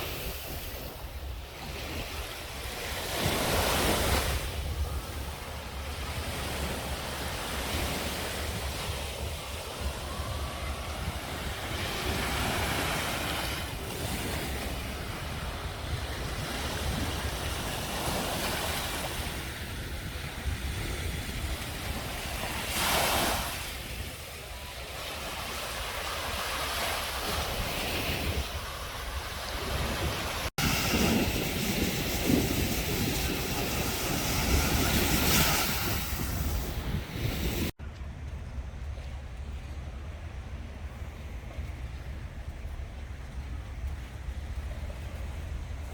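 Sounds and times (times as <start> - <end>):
waves washing onto beach: 0.0 - 37.8
wind buffeting microphone: 0.0 - 45.9.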